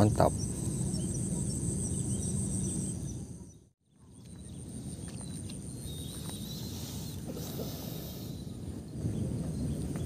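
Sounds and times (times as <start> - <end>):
insects trilling: 0.0 - 3.5, 4.4 - 10.0.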